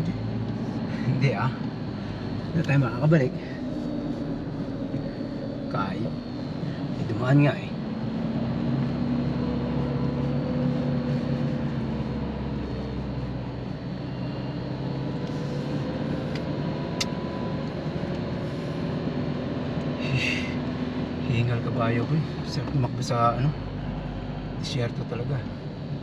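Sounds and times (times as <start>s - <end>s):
vehicle engine rumbling in cabin: 0.0s - 26.0s.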